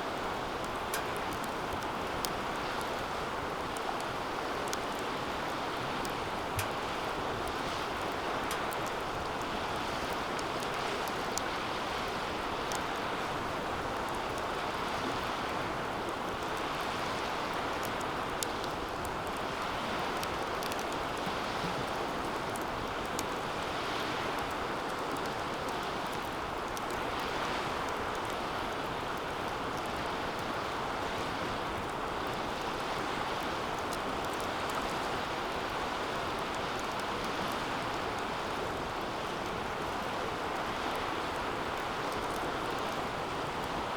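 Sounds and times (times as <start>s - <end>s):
wood fire crackles and pops: 0.0s - 43.9s.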